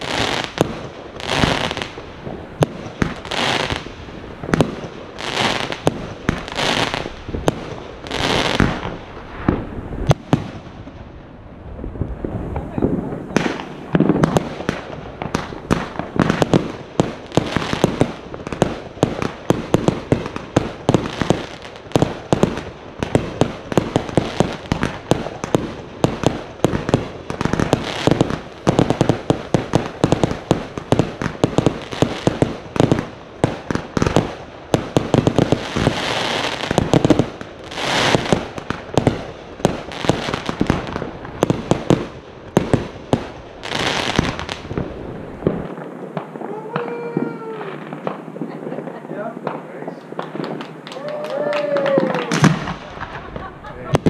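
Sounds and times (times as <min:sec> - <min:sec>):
crackling hiss of fireworks: 0:00.0 - 0:54.0
fireworks barrage: 0:00.0 - 0:54.0.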